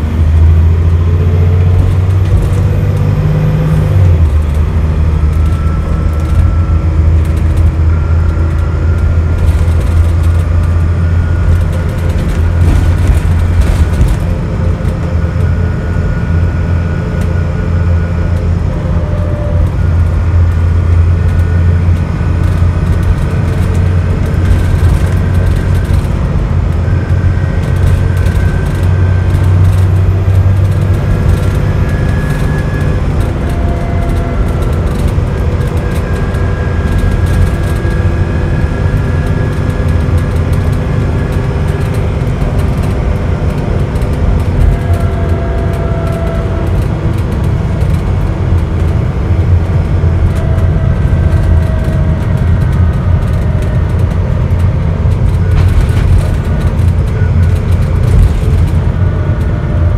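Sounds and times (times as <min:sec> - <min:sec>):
bus engine droning: 0:00.0 - 0:59.9
driveline whine: 0:00.0 - 0:59.9.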